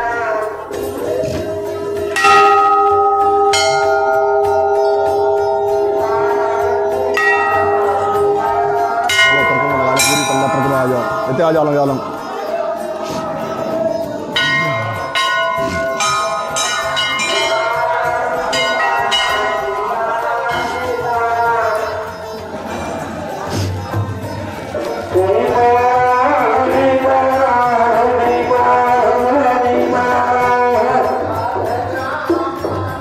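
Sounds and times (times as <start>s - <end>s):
temple bells ringing: 0.0s - 33.0s.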